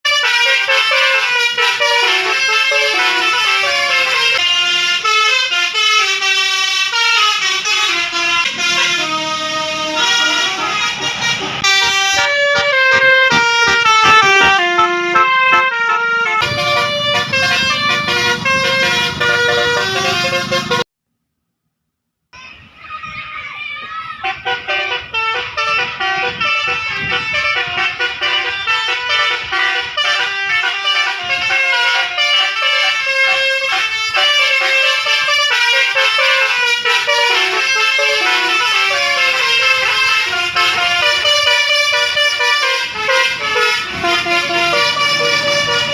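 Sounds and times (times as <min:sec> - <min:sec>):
bus air horn melody: 0:00.0 - 0:20.9, 0:24.2 - 0:45.9.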